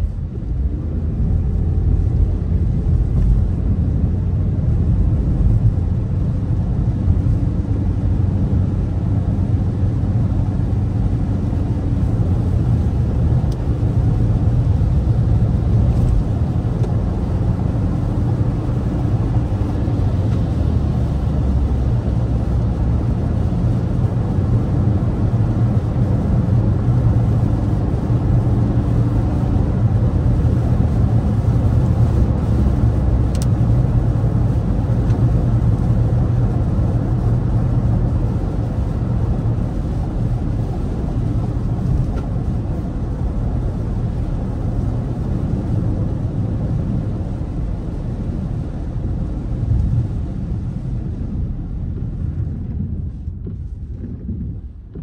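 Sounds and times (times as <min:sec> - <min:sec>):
car rumble from inside cabin: 0:00.0 - 0:55.0.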